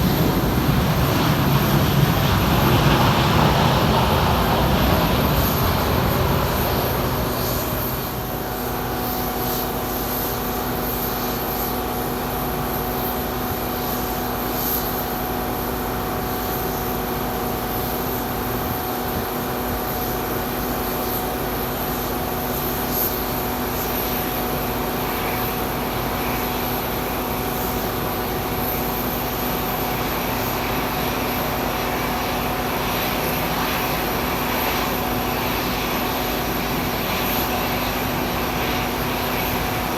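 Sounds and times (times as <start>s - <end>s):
aircraft turbine engines whining: 0.0s - 39.9s.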